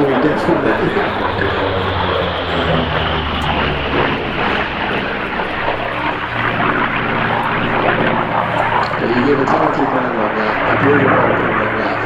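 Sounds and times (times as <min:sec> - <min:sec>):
radial aircraft engine in flight: 0:00.0 - 0:12.0.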